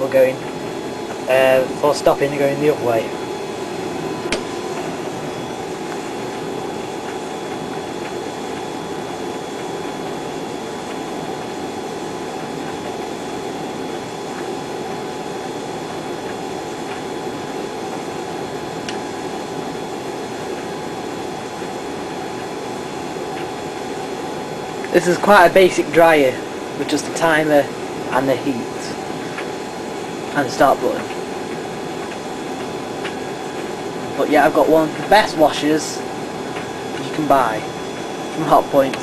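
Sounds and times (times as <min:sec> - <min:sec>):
tumble dryer whirring: 0:00.0 - 0:39.0.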